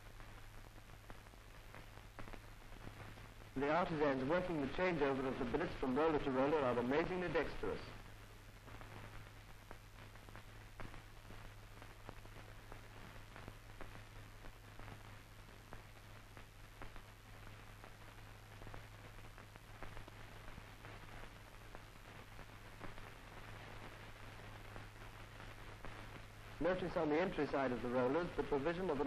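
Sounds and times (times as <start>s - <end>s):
film crackles and clicks: 0.0s - 29.0s
low hum and hiss: 0.0s - 29.0s.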